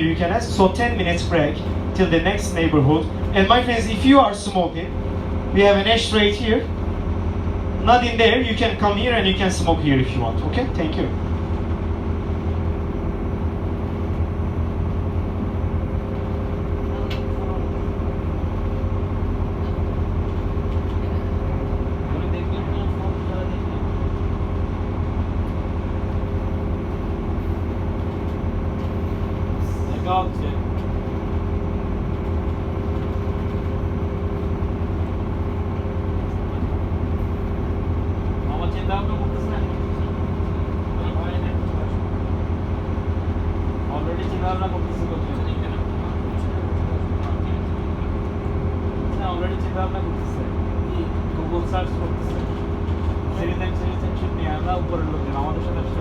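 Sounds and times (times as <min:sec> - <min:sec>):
boat engine drone: 0:00.0 - 0:56.0.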